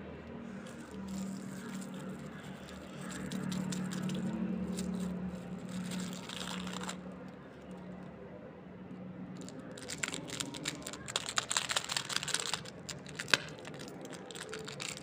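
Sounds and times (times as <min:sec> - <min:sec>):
packaging crinkling: 0:00.6 - 0:07.0, 0:09.4 - 0:15.0.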